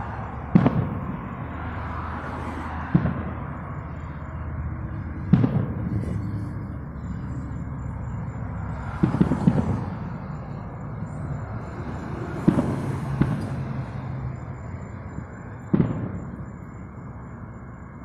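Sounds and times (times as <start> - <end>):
distant firecrackers popping: 0.0 - 10.3, 11.6 - 14.1, 15.0 - 16.6.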